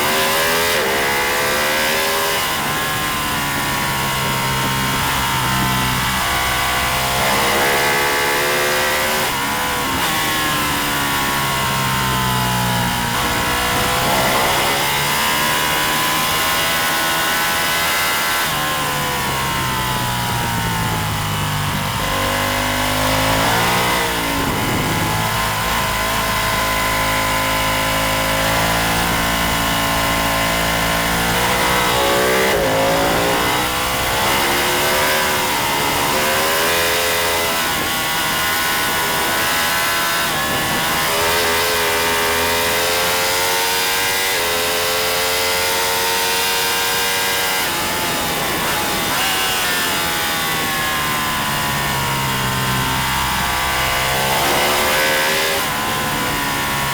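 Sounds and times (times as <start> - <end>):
racing motorcycle engine revving: 0.0 - 56.9.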